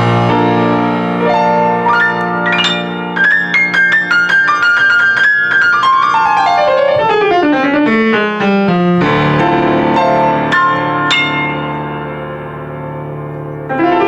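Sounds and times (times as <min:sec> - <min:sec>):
fast piano passage: 0:00.0 - 0:14.0.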